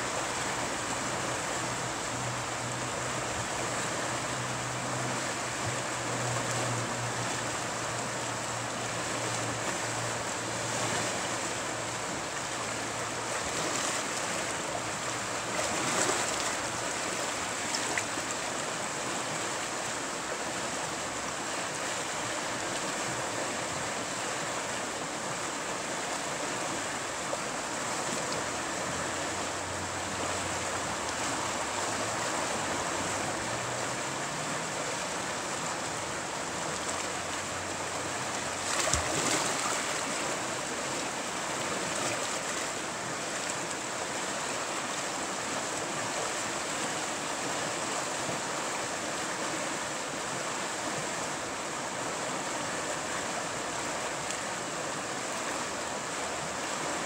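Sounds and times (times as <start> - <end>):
river rapid rushing: 0.0 - 57.0.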